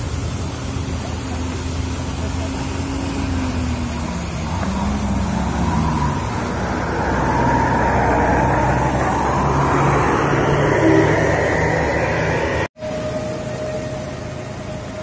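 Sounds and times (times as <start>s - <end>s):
diesel coach engine labouring: 0.0s - 15.0s
tyres on wet road: 0.0s - 15.0s.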